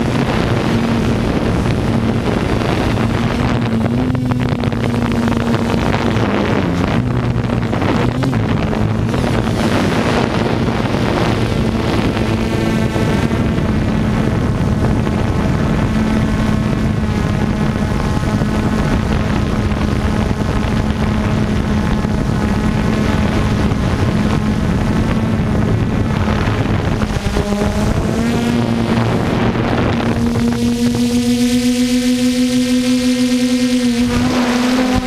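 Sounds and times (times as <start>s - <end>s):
drone motors humming: 0.0s - 35.0s
wind noise: 0.0s - 35.0s.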